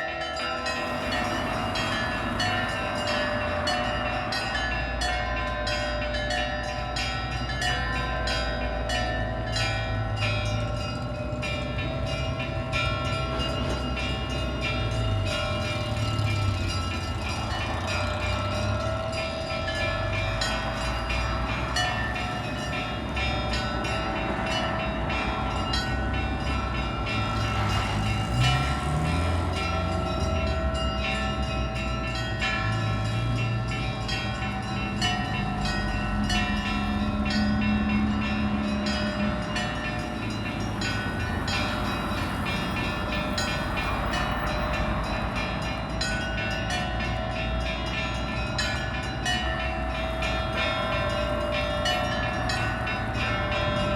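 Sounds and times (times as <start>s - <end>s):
large bells ringing: 0.0s - 53.9s
small church bells struck rapidly: 0.0s - 53.9s.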